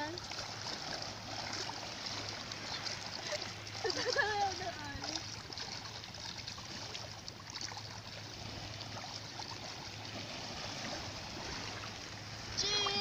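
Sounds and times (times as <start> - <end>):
faint water splashes: 0.0 - 13.0
small waves washing: 0.0 - 13.0.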